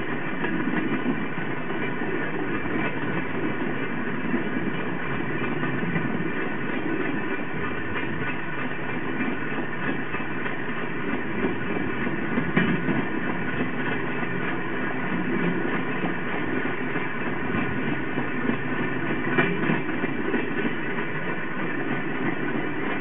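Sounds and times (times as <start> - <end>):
rail clicks: 0.0 - 23.0
steel wheels rolling on track: 0.0 - 23.0.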